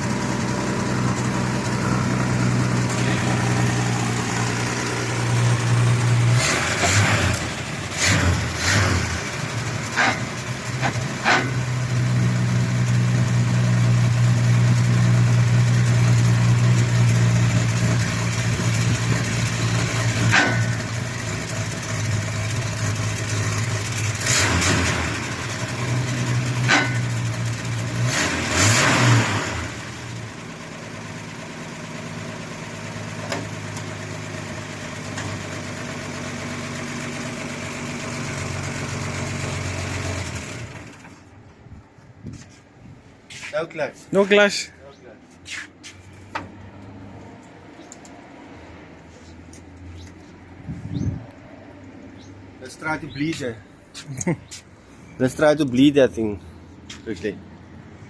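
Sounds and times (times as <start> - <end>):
truck engine idling: 0.0 - 28.0, 30.0 - 58.0.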